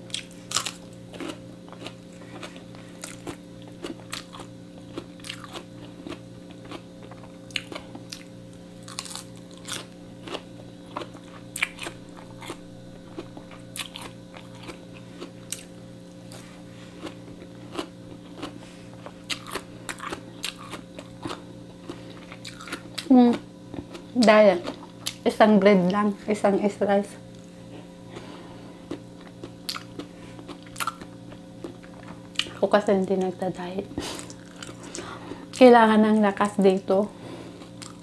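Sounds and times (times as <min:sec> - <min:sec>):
person chewing crunchy food: 0:00.0 - 0:25.2, 0:27.3 - 0:32.7, 0:33.9 - 0:35.6, 0:37.4 - 0:38.0
low hum: 0:00.0 - 0:38.0.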